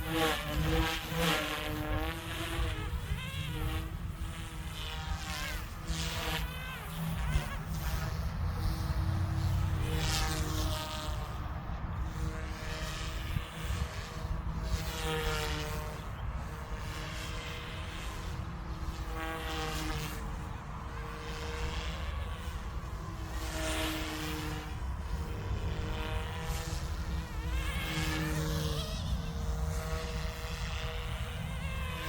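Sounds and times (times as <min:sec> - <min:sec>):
rc helicopter rotor whine: 0:00.0 - 0:32.0
constant low rumble: 0:01.6 - 0:32.0.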